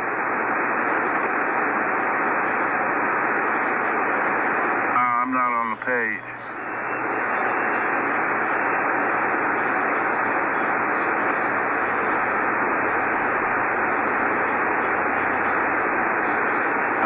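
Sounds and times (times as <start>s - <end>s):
radio band noise hiss: 0.0s - 17.0s.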